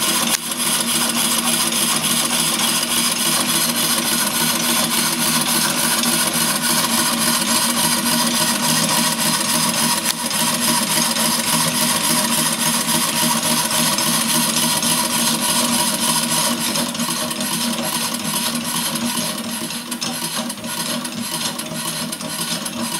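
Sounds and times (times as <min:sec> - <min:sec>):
model locomotive running on air: 0:00.0 - 0:22.9.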